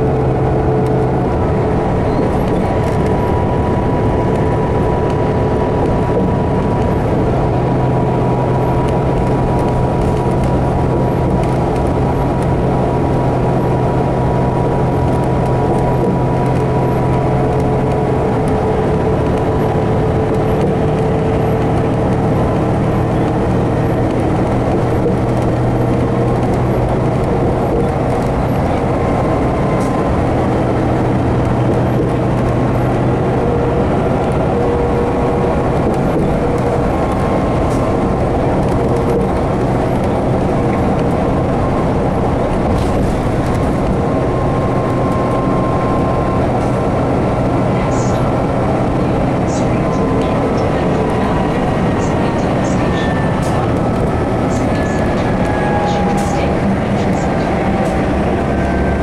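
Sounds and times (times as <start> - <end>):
bus engine and road noise: 0.0 - 59.0.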